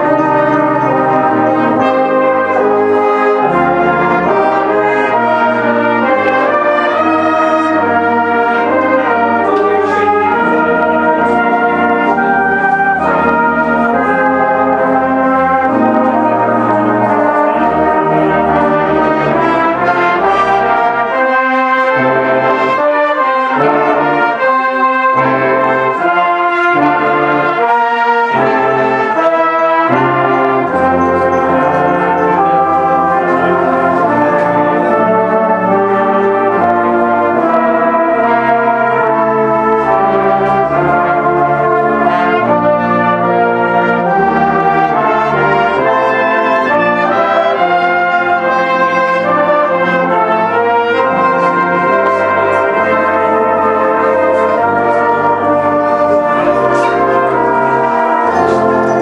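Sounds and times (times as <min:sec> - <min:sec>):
brass band playing: 0:00.0 - 0:59.0
cornets playing melody: 0:00.0 - 0:59.0
tubas playing bass notes: 0:00.0 - 0:59.0.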